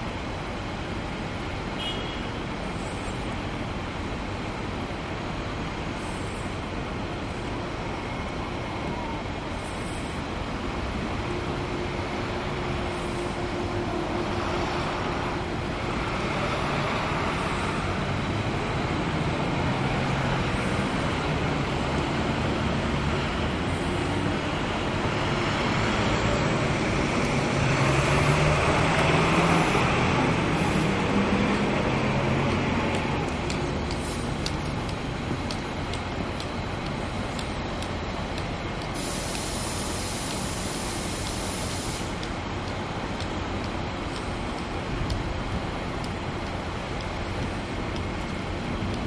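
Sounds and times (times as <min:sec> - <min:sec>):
train wheels rumbling on rails: 0:02.4 - 0:49.0.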